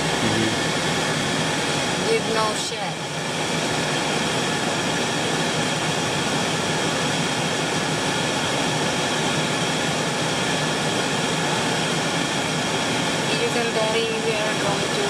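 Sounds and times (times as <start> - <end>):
air conditioning blower rushing: 0.0 - 15.0
car engine low hum: 0.0 - 15.0.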